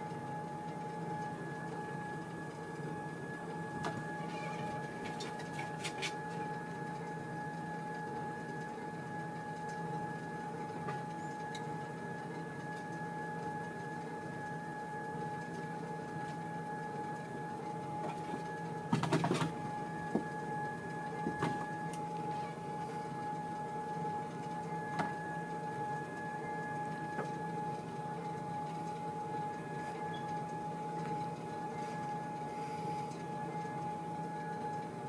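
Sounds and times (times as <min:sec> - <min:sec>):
treadmill motor hum and whine: 0:00.0 - 0:35.0.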